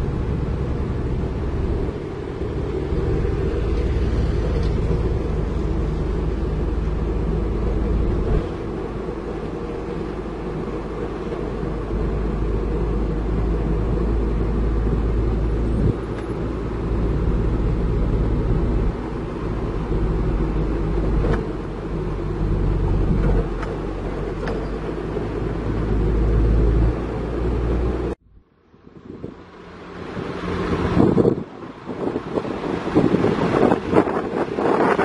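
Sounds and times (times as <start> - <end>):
truck engine and road rumble: 0.0 - 35.0.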